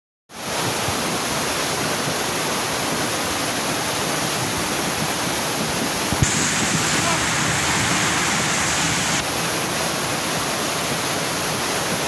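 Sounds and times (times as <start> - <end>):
floodwater rushing: 0.4 - 12.0.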